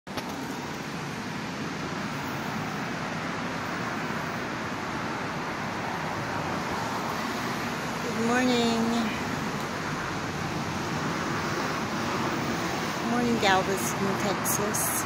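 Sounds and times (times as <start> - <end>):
road traffic rushing: 0.1 - 15.0.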